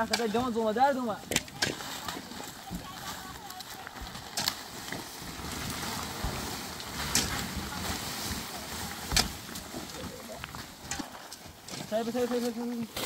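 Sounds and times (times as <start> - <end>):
dry reeds crackling: 0.0 - 13.0
plastic sheeting rustling: 0.0 - 13.0.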